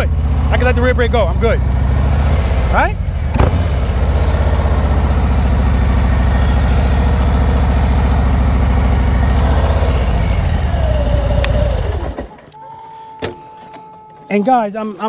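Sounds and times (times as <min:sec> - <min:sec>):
motorcycle engine low pulsing: 0:00.0 - 0:12.4.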